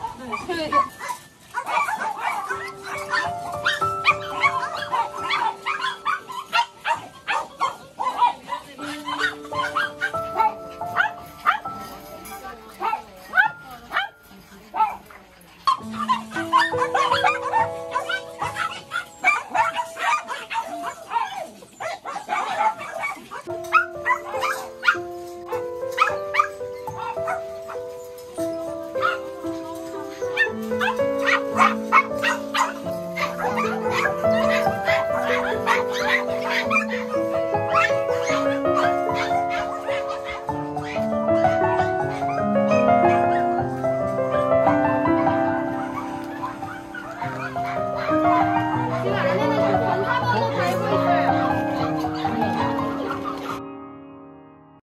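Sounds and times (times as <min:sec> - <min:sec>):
dogs barking and yipping: 0:00.0 - 0:53.7
slow music with held notes: 0:00.0 - 0:54.8.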